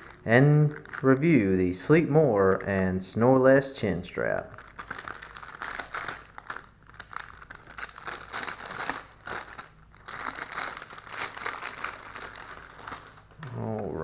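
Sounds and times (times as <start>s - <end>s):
packaging crinkling: 0.0s - 1.7s, 4.3s - 13.9s.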